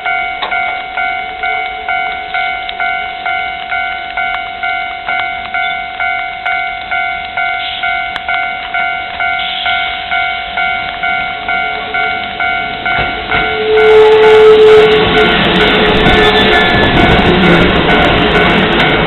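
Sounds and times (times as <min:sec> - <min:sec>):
electric train passing: 0:00.0 - 0:19.0
level crossing bell ringing: 0:00.0 - 0:19.0
steady tone: 0:00.0 - 0:19.0
train wheel clacks: 0:00.1 - 0:19.0.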